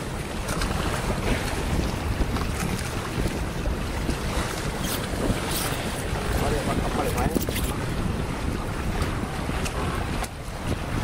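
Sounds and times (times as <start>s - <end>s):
sea water rushing along hull: 0.0s - 11.0s
wind buffeting microphone: 0.0s - 11.0s.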